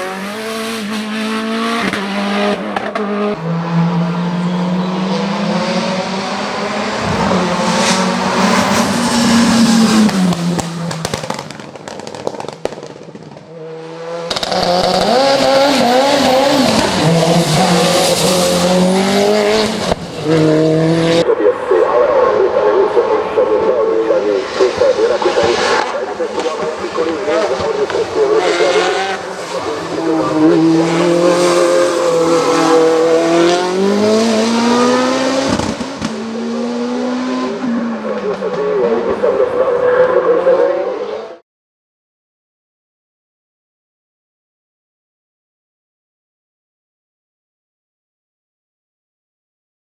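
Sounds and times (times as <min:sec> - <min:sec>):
race engine at full throttle: 0:00.0 - 0:41.4.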